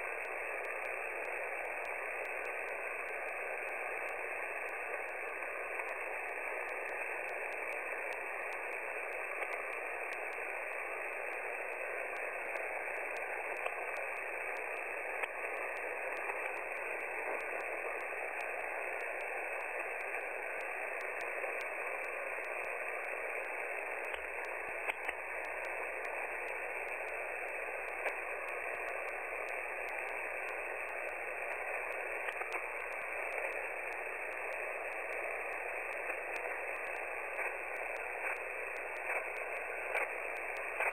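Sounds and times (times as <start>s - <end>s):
radio clicks and crackles: 0.0s - 40.9s
radio static hiss: 0.0s - 40.9s.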